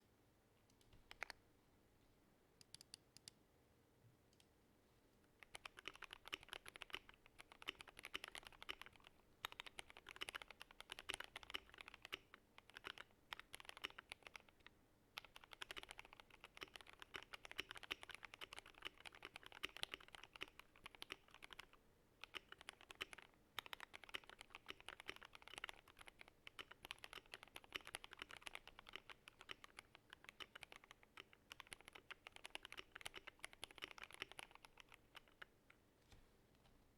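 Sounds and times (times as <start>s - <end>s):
mechanical keyboard typing: 5.4s - 35.5s.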